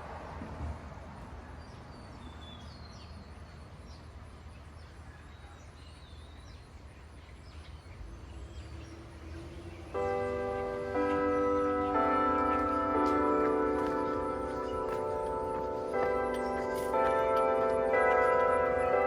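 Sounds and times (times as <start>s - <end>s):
small birds chirping: 1.5s - 19.0s.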